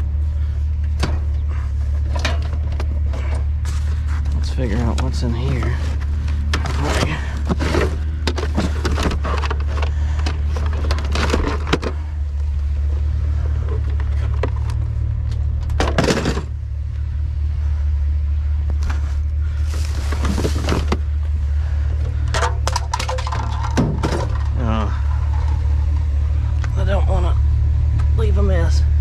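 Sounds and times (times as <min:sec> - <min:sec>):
trash rustling and clattering: 0:00.0 - 0:16.7, 0:18.6 - 0:26.5
low hum: 0:00.0 - 0:29.0.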